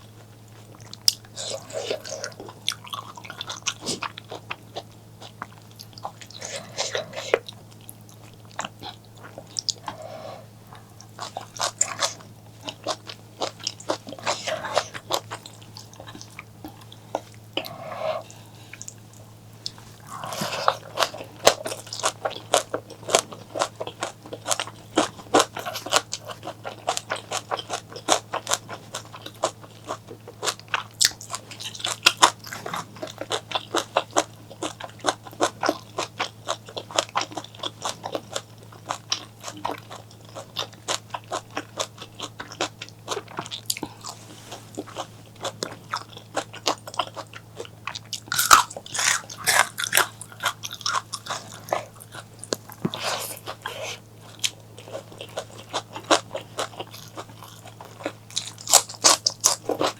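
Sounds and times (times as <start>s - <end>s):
crisp crunching and chewing: 0.0s - 10.0s, 10.7s - 59.9s
wet chewing: 0.2s - 59.9s.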